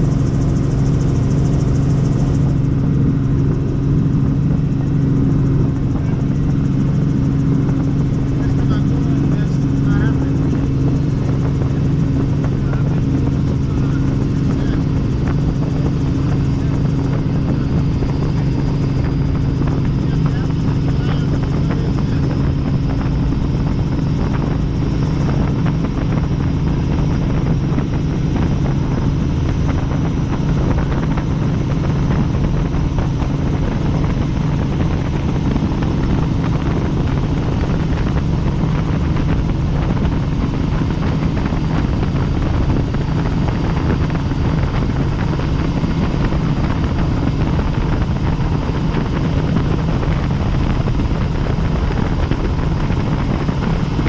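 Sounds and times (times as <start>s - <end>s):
helicopter rotor and engine noise: 0.0s - 54.0s.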